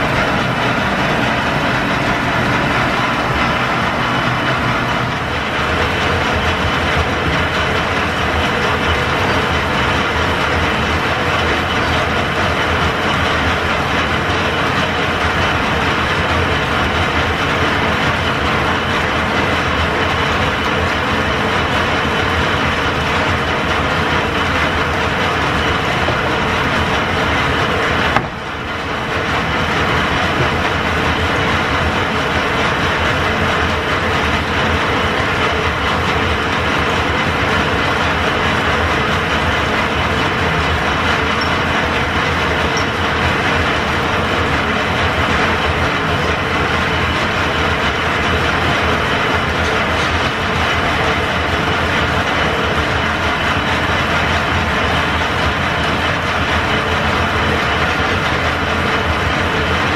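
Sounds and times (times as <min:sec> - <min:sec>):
lathe gears and belts clattering: 0:00.0 - 0:59.9.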